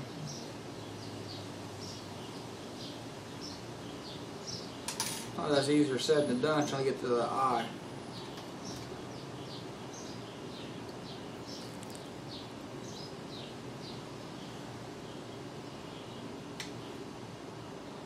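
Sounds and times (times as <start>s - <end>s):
songbird chirping: 0.0s - 6.8s, 7.4s - 18.0s
steady background hiss: 0.0s - 18.0s.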